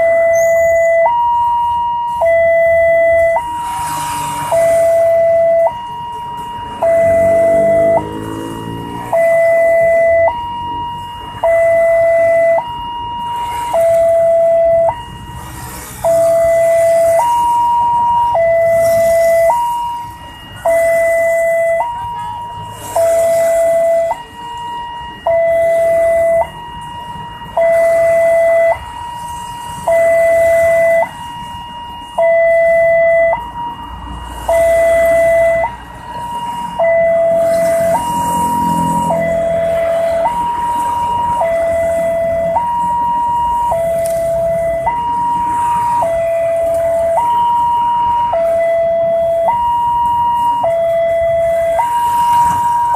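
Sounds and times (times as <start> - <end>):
two-tone crossing alarm: 0.0 - 52.9.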